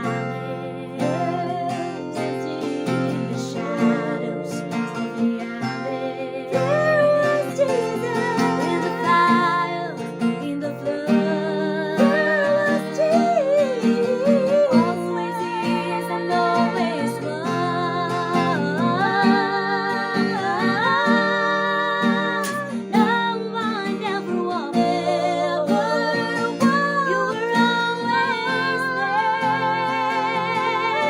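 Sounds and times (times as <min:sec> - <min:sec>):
acoustic guitar: 0:00.0 - 0:31.0
women singing a hymn: 0:00.0 - 0:31.0.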